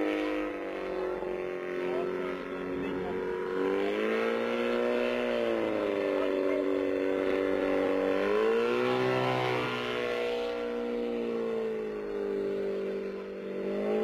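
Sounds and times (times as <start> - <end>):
rotorcraft engine in flight: 0.0 - 14.0.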